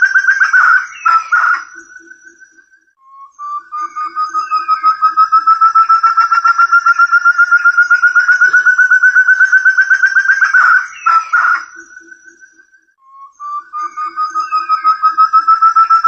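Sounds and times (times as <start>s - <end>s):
partridge whistled call: 0.0s - 16.0s.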